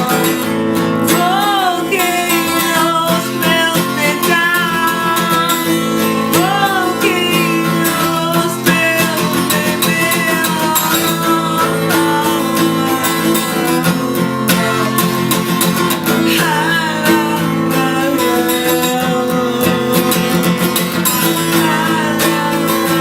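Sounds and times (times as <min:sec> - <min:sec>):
acoustic guitar strumming: 0:00.0 - 0:23.0
person singing wordless notes: 0:00.0 - 0:23.0.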